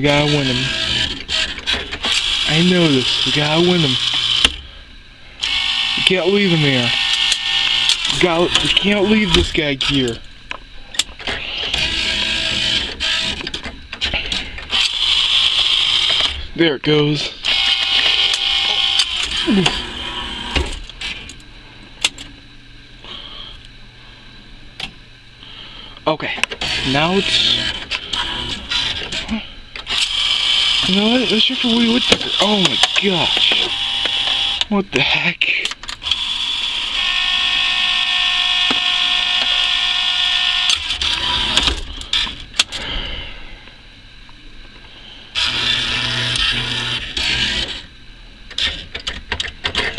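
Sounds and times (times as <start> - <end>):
claw machine motor whirring: 0.0 - 4.8, 5.4 - 16.5, 17.2 - 22.2, 26.4 - 34.7, 35.6 - 43.2, 44.9 - 49.9.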